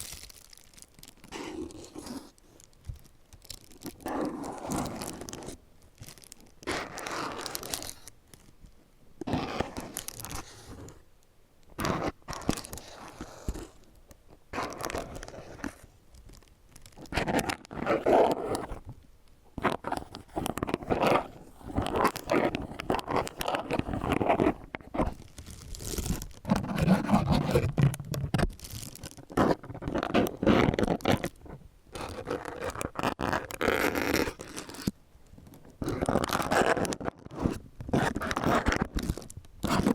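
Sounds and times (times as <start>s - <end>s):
plastic gloves crinkling: 0.0s - 39.9s.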